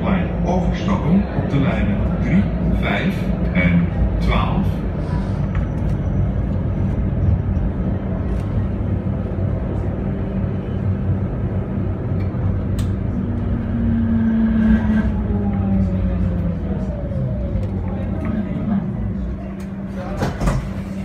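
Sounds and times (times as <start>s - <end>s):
steady hum: 0.0s - 21.0s
tram wheels rumbling on rails: 0.0s - 21.0s.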